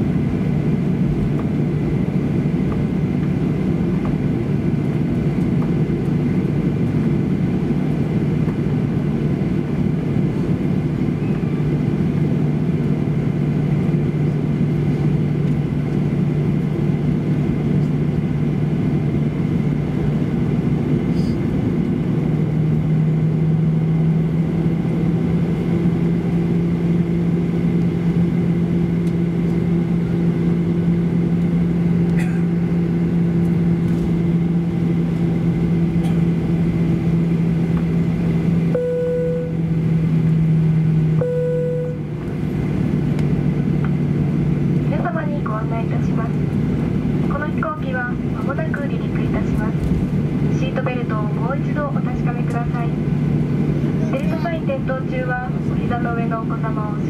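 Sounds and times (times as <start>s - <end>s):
jet engines humming: 0.0s - 57.0s.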